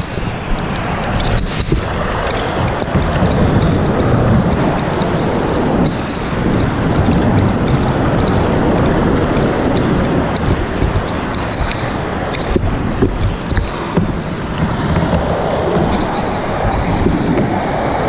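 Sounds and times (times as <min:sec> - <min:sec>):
rushing river rapids: 0:00.0 - 0:18.0.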